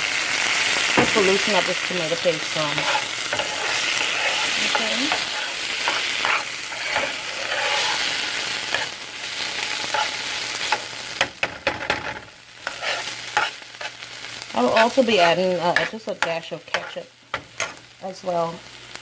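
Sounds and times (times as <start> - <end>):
vegetables sizzling in a pot: 0.0 - 19.0.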